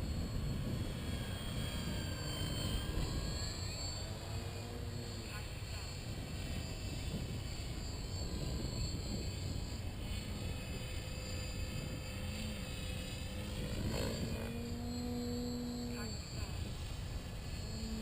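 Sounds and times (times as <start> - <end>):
model plane propeller hum: 0.0 - 18.0.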